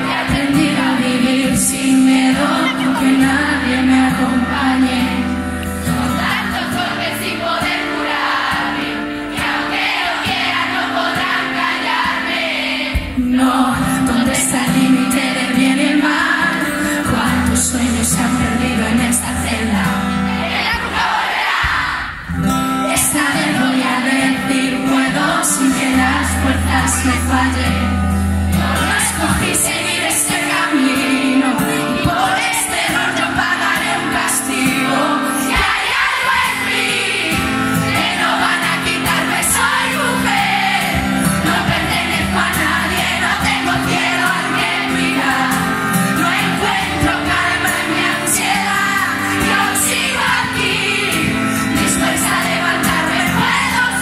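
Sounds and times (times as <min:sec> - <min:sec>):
live pop song through pa: 0:00.0 - 0:54.0.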